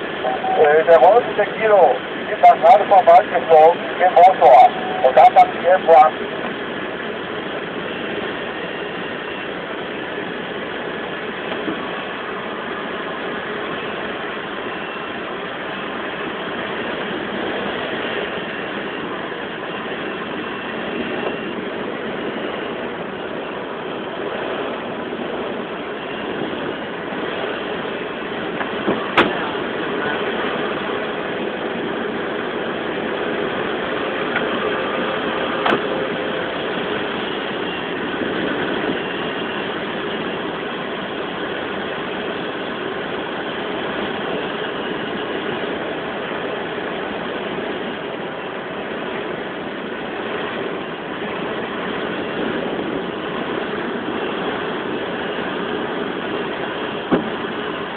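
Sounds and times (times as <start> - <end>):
air rushing past cockpit: 0.0 - 57.9.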